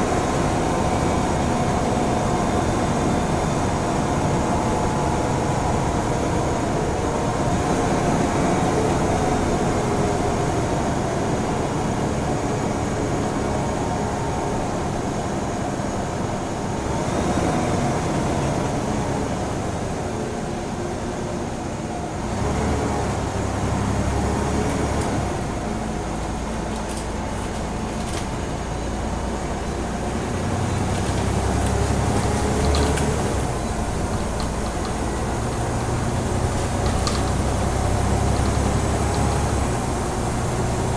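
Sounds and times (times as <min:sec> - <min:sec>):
bus engine running: 0:00.0 - 0:40.9
road noise: 0:00.0 - 0:40.9.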